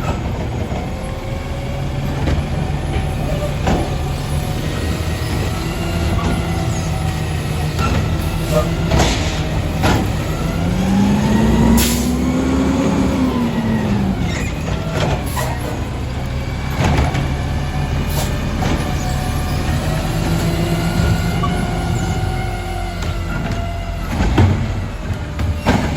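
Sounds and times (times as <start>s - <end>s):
diesel truck engine running: 0.0s - 25.9s.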